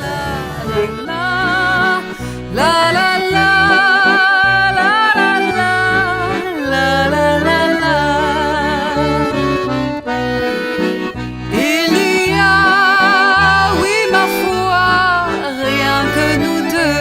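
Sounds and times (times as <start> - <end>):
accordion tune with bass line: 0.0 - 17.0.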